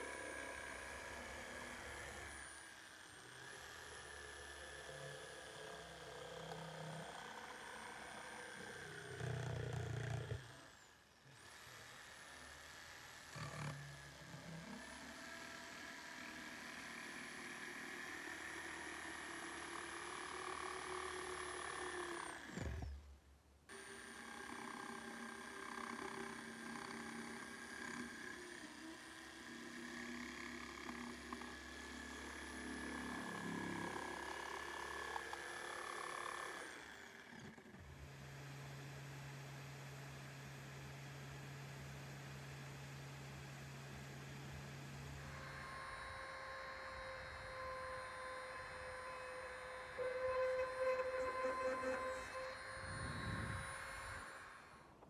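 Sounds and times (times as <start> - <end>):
electric jigsaw cutting wood: 0.0 - 23.1, 23.7 - 55.0.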